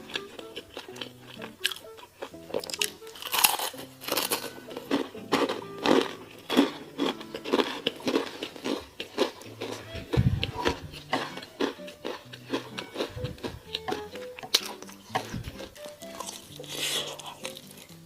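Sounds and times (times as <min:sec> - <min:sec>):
crunchy bites and chewing: 0:00.0 - 0:18.0
soft background music: 0:00.0 - 0:18.0.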